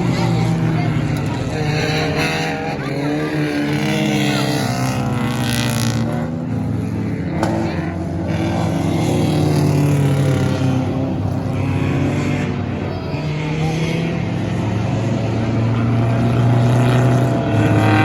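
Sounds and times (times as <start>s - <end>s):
stock car engines racing: 0.0s - 18.0s.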